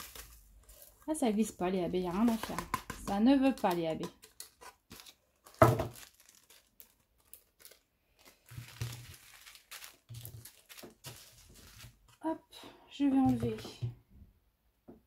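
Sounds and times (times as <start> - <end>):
plastic bags crinkling: 0.0 - 12.2.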